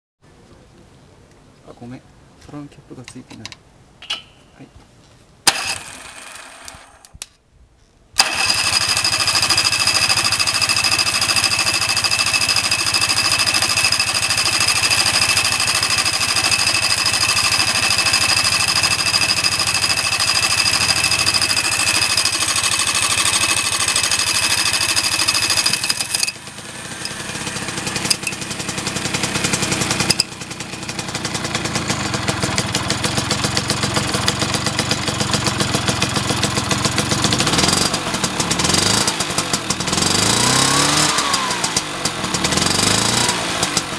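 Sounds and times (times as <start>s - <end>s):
two-stroke engine running with whine: 5.5s - 7.1s, 8.2s - 43.9s
electric starter cranking: 5.5s - 7.2s, 8.2s - 43.9s.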